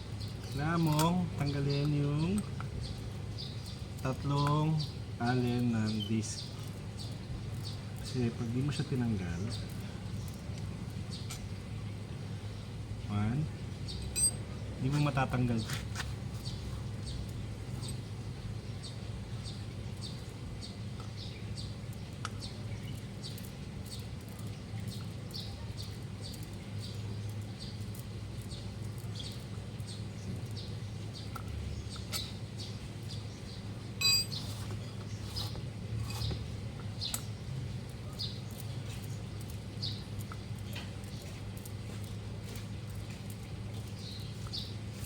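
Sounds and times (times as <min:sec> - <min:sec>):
small bird chirping: 0:00.0 - 0:12.8, 0:13.7 - 0:45.0
low background hum: 0:00.0 - 0:45.0.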